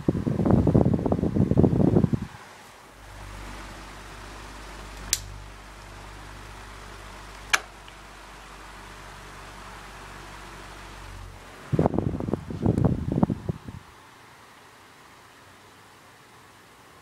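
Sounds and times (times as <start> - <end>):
fan motor humming: 0.0 - 17.0.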